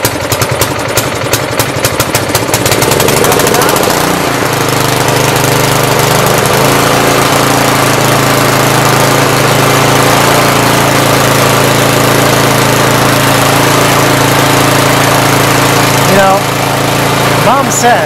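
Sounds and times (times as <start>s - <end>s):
tiller engine running: 0.0s - 18.0s.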